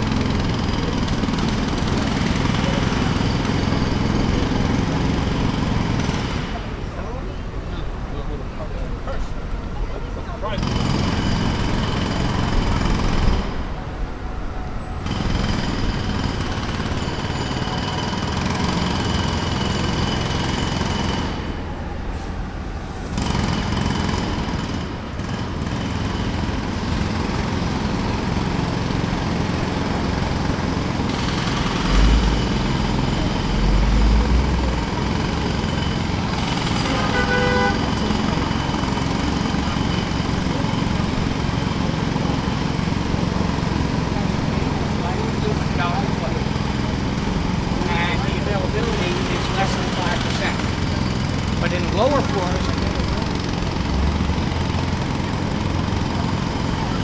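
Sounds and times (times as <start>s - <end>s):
jackhammer hammering: 0.0s - 7.2s, 10.5s - 13.9s, 15.0s - 21.9s, 23.1s - 57.0s
heavy engine rumbling: 0.0s - 57.0s.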